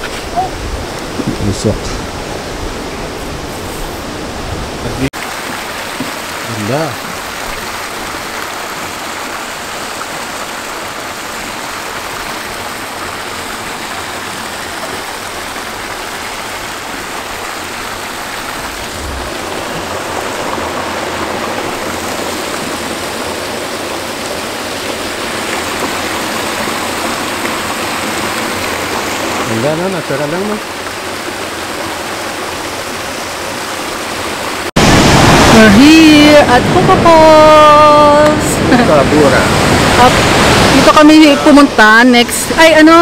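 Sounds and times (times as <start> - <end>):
hot water rushing down channel: 0.0 - 43.0.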